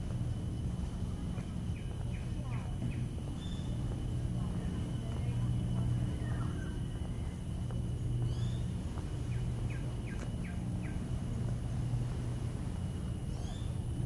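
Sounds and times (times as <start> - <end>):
birds chirping: 0.0 - 14.0
low rumble of outdoor ambience: 0.0 - 14.0.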